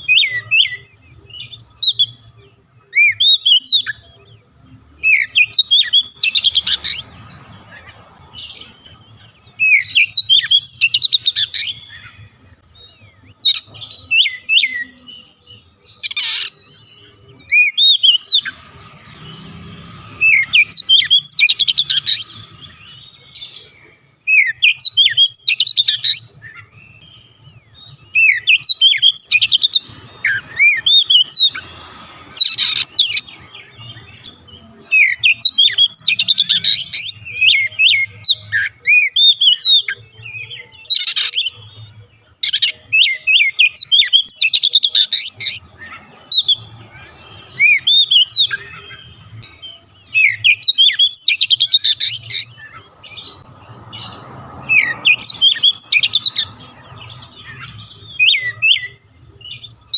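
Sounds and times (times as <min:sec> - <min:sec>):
bird singing whistles and chirps: 0:00.0 - 0:59.9.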